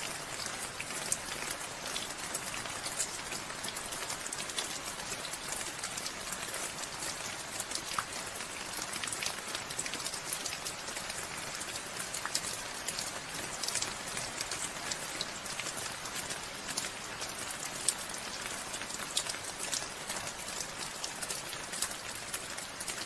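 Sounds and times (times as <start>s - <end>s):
steady rain pattering: 0.0s - 23.0s.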